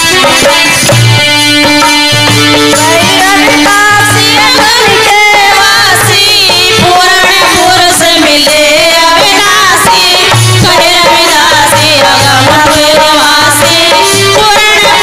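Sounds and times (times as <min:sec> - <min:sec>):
hand drum beat: 0:00.1 - 0:15.0.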